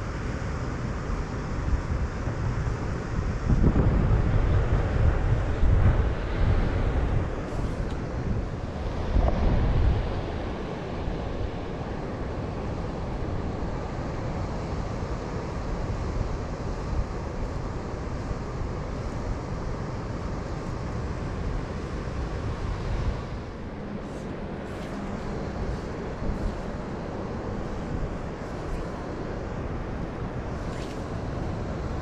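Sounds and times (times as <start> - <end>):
wind buffeting microphone: 1.4 - 32.0.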